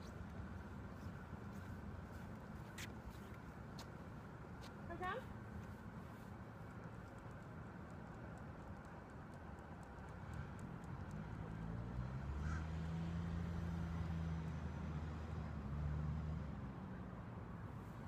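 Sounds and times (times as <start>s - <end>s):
distant traffic drone: 0.0s - 18.0s.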